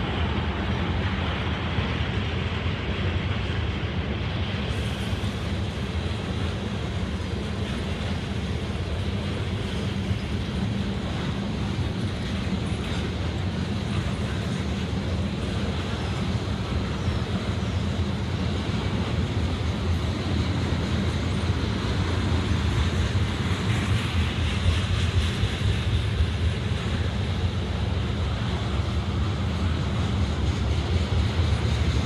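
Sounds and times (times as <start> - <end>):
railroad tank cars rolling on track: 0.0 - 32.0.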